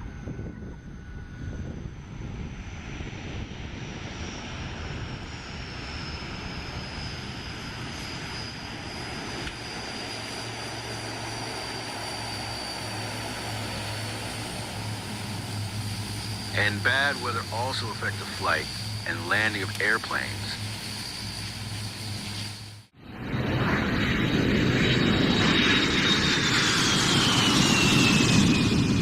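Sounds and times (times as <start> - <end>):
high jet whine: 0.0 - 29.0
jet engines roaring: 0.0 - 29.0.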